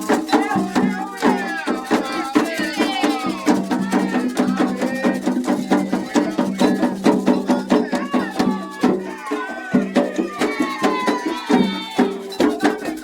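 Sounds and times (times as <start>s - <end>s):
hand drums: 0.0s - 13.0s
voices singing: 0.0s - 13.0s.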